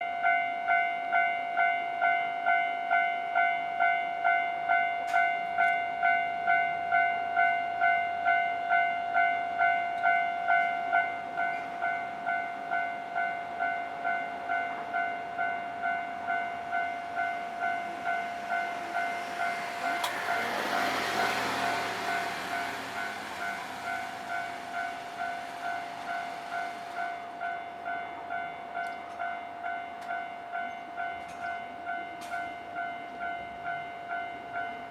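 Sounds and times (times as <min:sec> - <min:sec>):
tram rumbling over crossing: 0:04.8 - 0:34.9.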